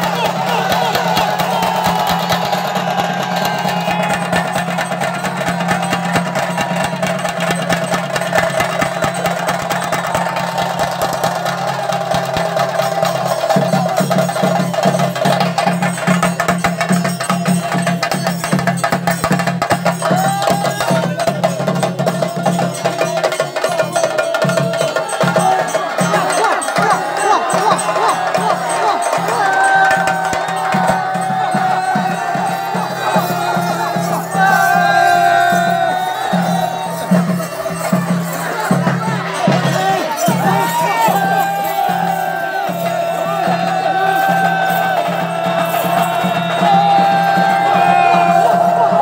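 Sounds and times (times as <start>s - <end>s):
drums in fast roll: 0.0s - 49.0s.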